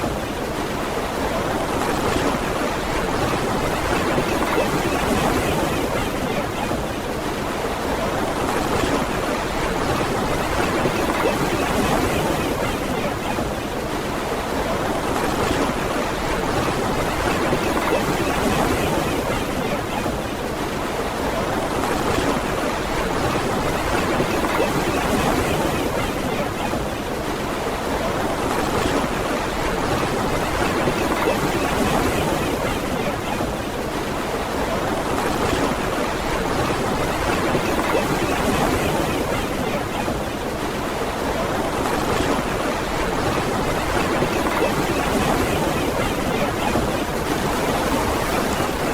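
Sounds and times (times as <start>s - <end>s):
ocean surf washing onto beach: 0.0s - 48.9s.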